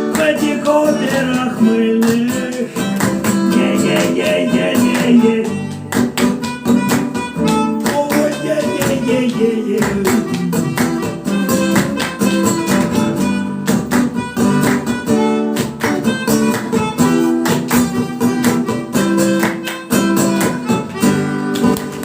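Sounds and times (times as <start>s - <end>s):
live reggae band playing: 0.0s - 22.0s
rhythmic guitar chords: 0.0s - 22.0s.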